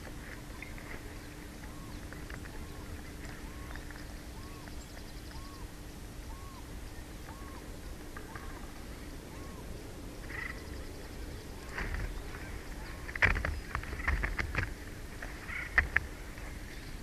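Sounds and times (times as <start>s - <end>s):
faint low hum: 0.0s - 17.0s
wind rumble on microphone: 0.0s - 17.0s.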